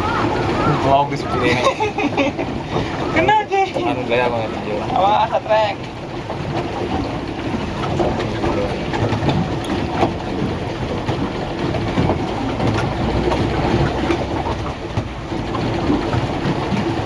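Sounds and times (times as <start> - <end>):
boat motor running: 0.0 - 17.0
water noise: 0.0 - 17.0.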